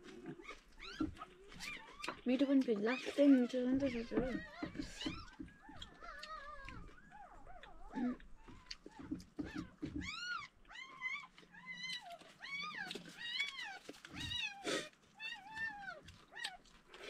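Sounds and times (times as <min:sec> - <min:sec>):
puppies crying and squealing: 0:00.0 - 0:16.8.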